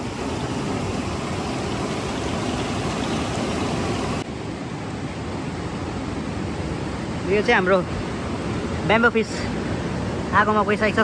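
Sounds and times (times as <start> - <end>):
flowing river water: 0.0 - 11.0.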